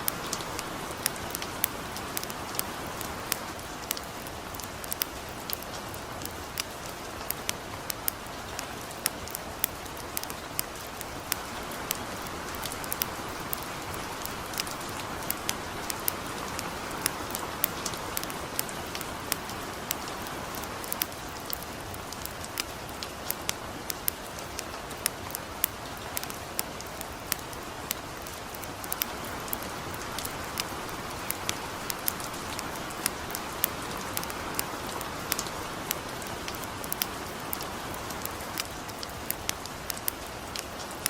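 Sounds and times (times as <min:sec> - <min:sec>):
campfire crackling: 0:00.0 - 0:41.0
light rain hissing: 0:00.0 - 0:41.0.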